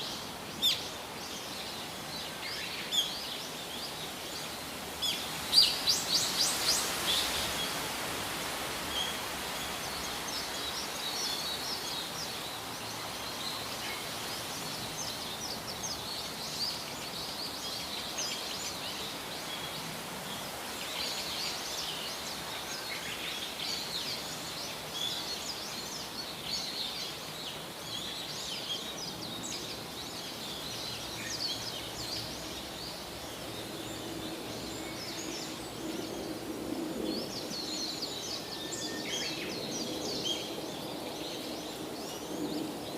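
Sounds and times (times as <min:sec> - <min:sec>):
steady outdoor hiss: 0:00.0 - 0:42.9.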